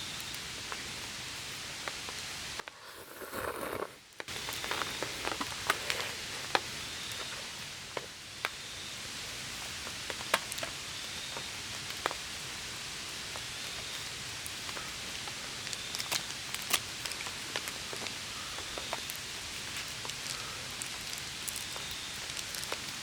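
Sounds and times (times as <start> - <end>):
steady hiss: 0.0 - 23.0
wood fire crackling: 0.0 - 23.0.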